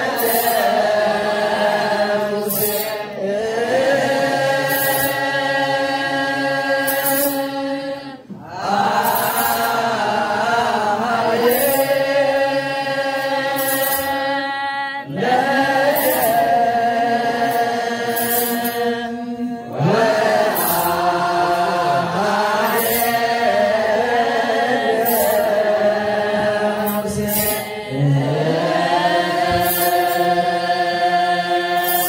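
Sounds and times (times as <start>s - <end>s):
group chanting in unison: 0.0s - 32.0s.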